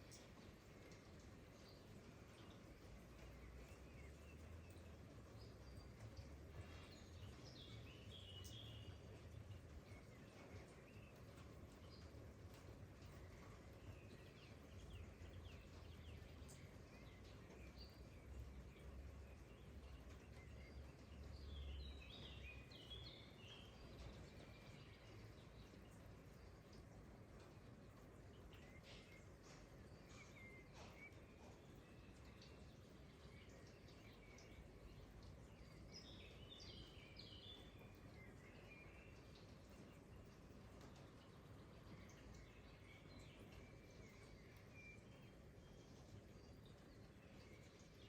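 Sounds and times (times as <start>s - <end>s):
light rain hiss: 0.0s - 48.0s.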